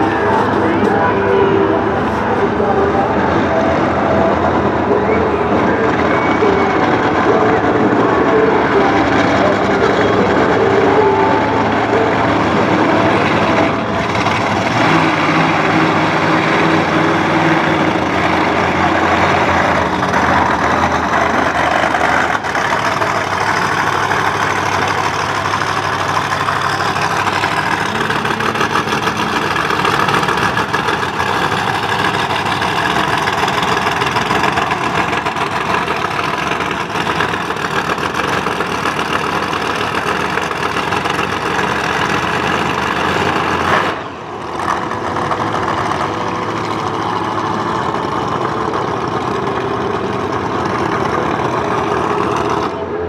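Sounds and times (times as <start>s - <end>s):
truck engines idling: 0.0s - 53.0s.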